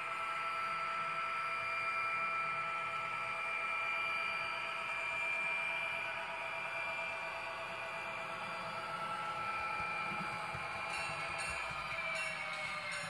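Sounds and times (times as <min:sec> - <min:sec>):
diesel engine sound from small speaker: 0:00.0 - 0:13.0.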